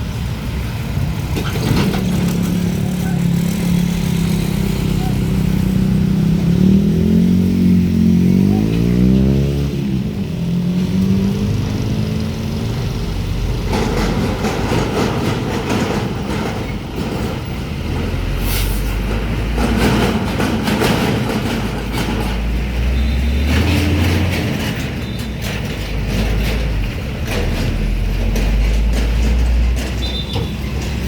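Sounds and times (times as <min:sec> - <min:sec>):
clacks over rails: 0:00.0 - 0:31.0
heavy vehicles rumbling: 0:00.0 - 0:31.0.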